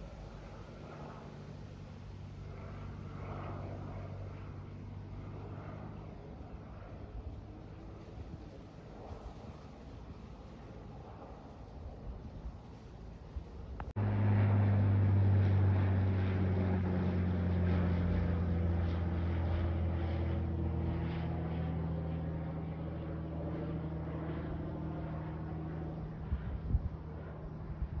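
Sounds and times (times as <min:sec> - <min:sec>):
propeller plane engine drone: 0:00.0 - 0:28.0.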